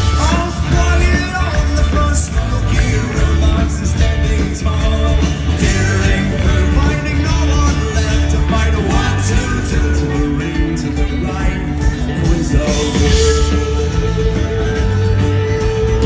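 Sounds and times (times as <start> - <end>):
live folk rock band: 0.0 - 16.0.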